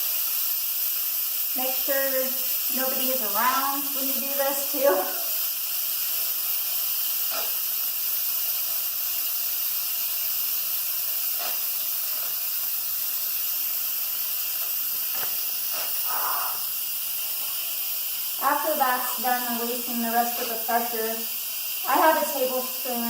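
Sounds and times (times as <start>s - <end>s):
steam hissing from valve: 0.0s - 23.0s.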